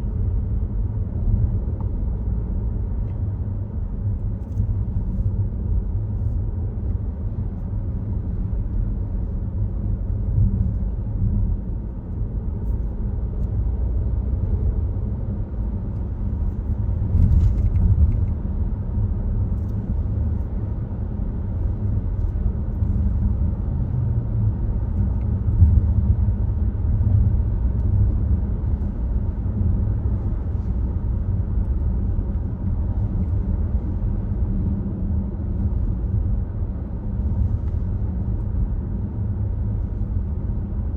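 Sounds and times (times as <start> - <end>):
car tyre and engine rumble: 0.0 - 40.9.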